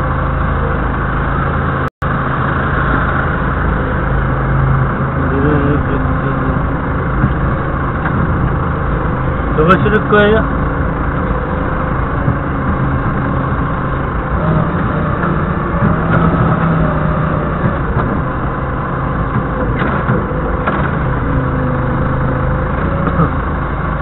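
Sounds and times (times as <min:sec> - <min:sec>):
forklift engine humming: 0:00.0 - 0:24.0.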